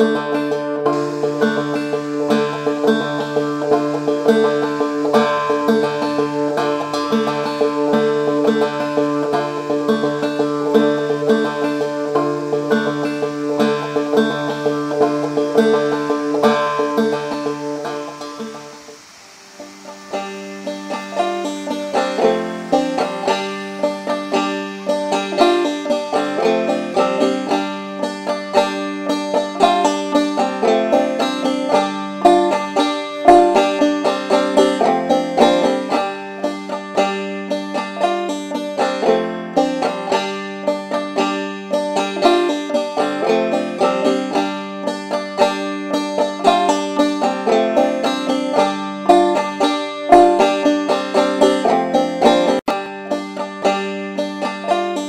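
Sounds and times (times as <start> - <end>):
fast-picked string instrument tune: 0.0 - 55.0.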